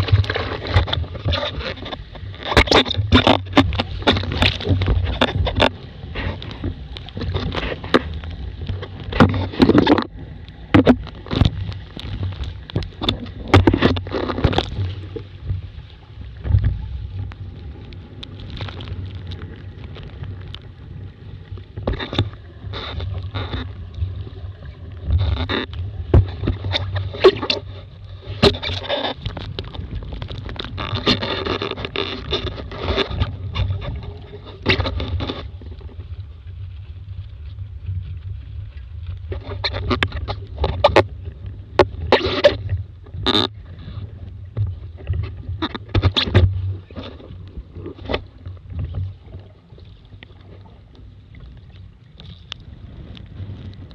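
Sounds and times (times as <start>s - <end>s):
boat hull slapping waves: 0.0s - 53.9s.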